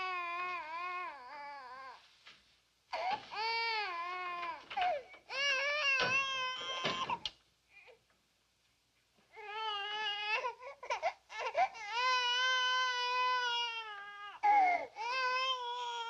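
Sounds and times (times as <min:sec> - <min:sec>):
baby crying: 0:00.0 - 0:02.0, 0:02.9 - 0:08.0, 0:09.4 - 0:16.0.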